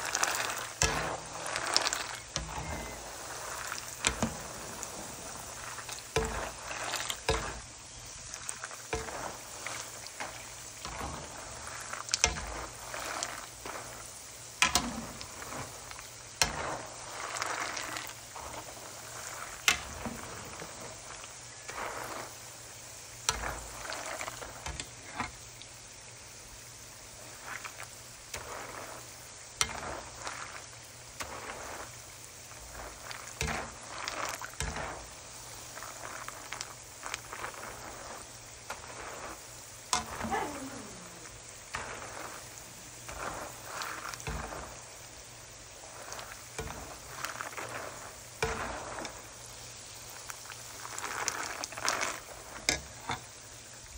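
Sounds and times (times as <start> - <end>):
food sizzling in oil: 0.0 - 53.9.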